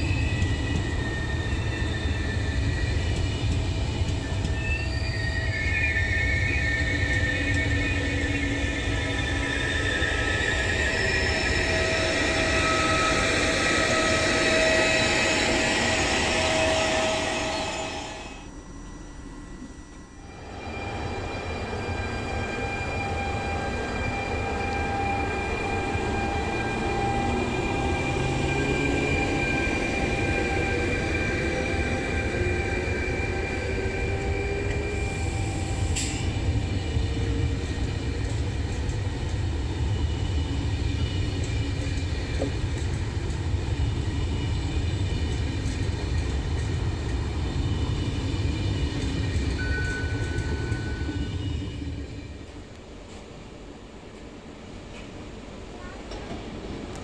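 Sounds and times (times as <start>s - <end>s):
train wheels rumbling on track: 0.0s - 19.0s, 19.6s - 57.0s
locomotive whining: 0.0s - 53.2s.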